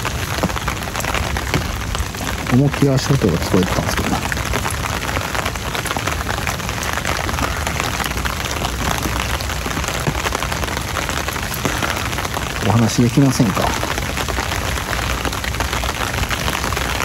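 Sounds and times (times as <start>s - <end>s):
rain pattering on plastic umbrella: 0.0s - 17.0s.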